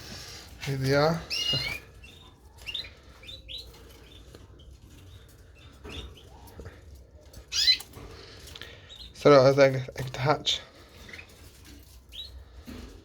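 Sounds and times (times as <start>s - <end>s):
canaries chirping: 0.0s - 13.0s.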